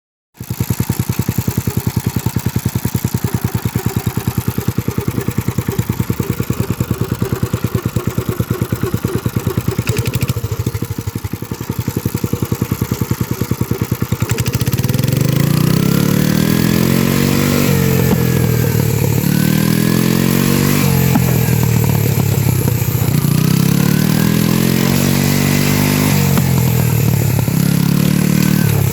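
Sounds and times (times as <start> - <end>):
tractor engine running and revving: 0.4 - 28.9.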